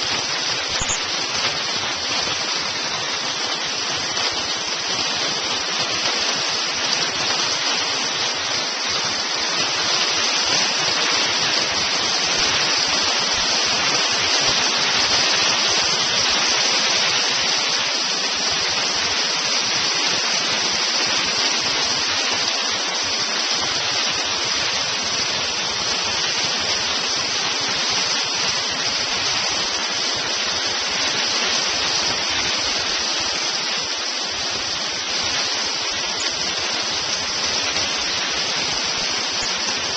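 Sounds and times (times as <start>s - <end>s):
hailstones falling hard: 0.0s - 39.9s.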